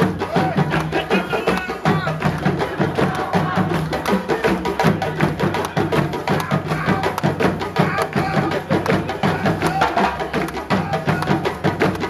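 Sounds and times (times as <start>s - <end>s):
hand drums playing rhythm: 0.0s - 12.0s.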